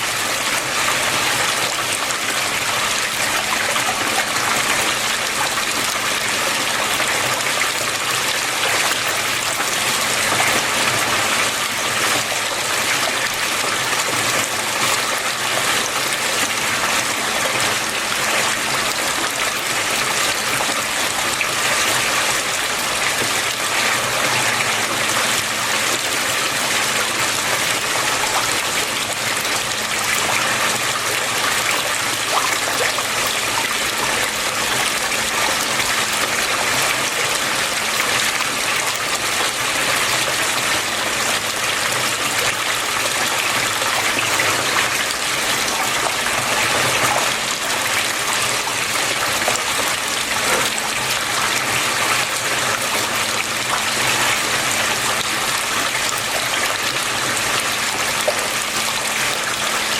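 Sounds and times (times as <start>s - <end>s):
flowing water: 0.0s - 59.9s.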